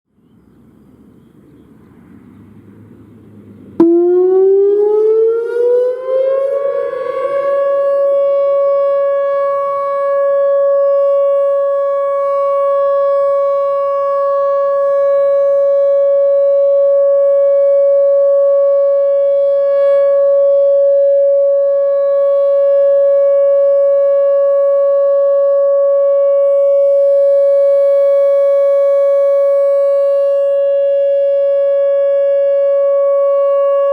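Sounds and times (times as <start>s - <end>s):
electronic warning siren: 3.8s - 33.9s.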